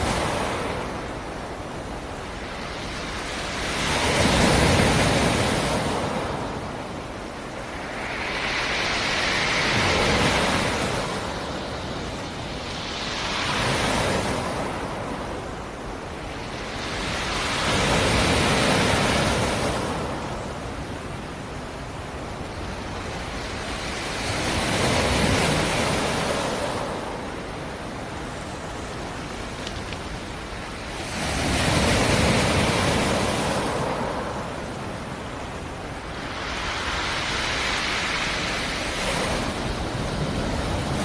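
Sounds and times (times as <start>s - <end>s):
waves washing onto shore: 0.0s - 41.0s.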